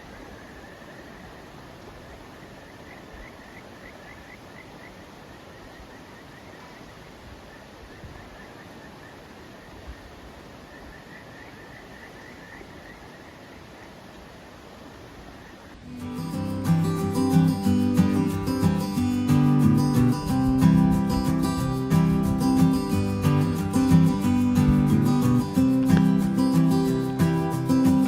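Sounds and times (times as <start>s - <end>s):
outdoor ambient hiss: 0.0s - 28.0s.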